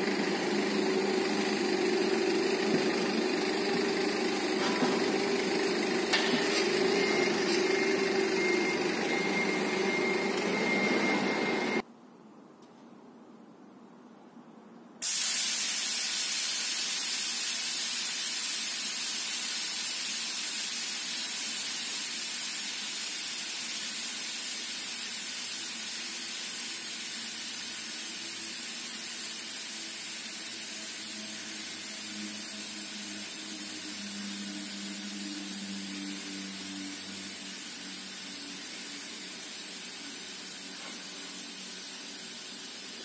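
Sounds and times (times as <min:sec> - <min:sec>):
machine hiss: 0:00.0 - 0:11.8, 0:15.0 - 0:43.0.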